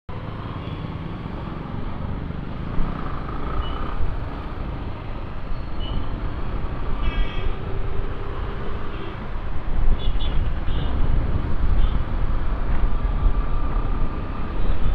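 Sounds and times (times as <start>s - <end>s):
wind and road noise: 0.1s - 14.9s.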